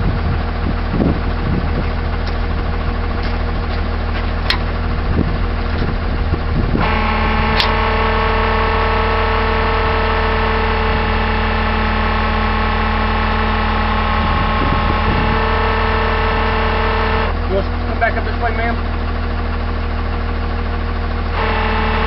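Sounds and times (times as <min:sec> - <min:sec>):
truck engine running: 0:00.0 - 0:22.0
winch whine: 0:00.0 - 0:22.0.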